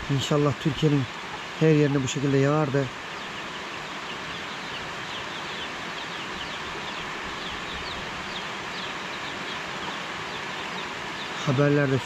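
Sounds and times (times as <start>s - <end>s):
small birds chirping: 0.0s - 12.0s
steady rain falling: 0.0s - 12.0s.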